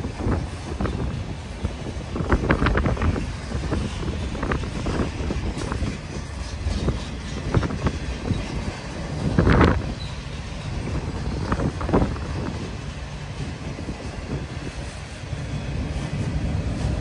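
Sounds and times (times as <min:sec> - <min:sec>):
train wheels rumbling on rail: 0:00.0 - 0:17.0
wheels clacking over rail joints: 0:00.0 - 0:17.0.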